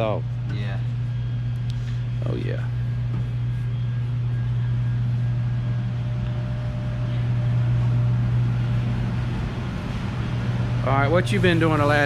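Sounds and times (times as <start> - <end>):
machinery droning: 0.0 - 12.0.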